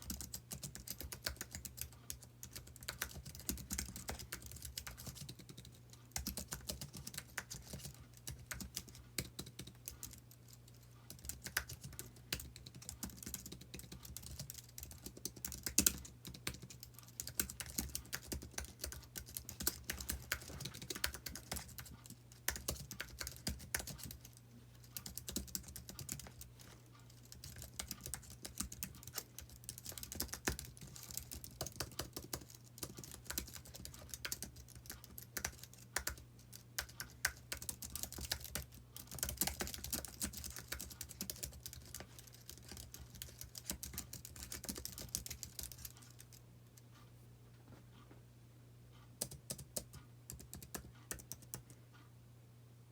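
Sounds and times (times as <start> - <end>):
faint low hum: 0.0 - 52.9.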